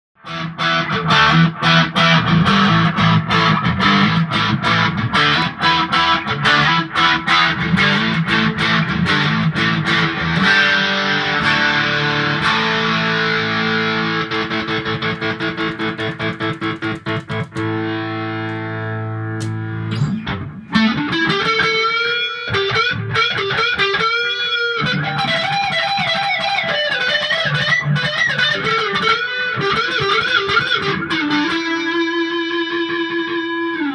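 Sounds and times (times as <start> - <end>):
electric guitar through amplifier: 0.2 - 33.9.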